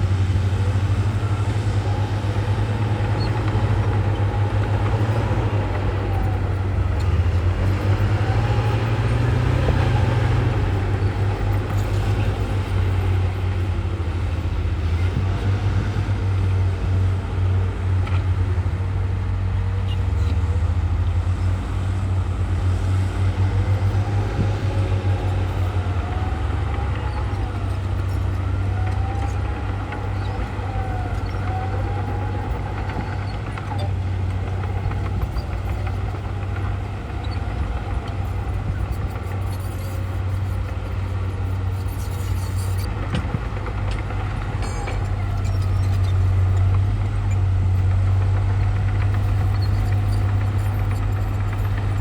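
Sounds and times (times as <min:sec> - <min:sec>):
heavy diesel machinery engine drone: 0:00.0 - 0:52.0.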